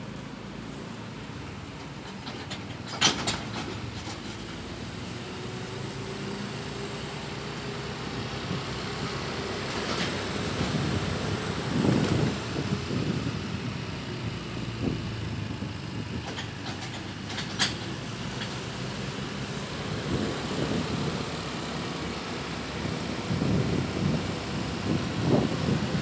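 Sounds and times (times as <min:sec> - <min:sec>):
vehicle rumbling on road: 0:00.0 - 0:26.0.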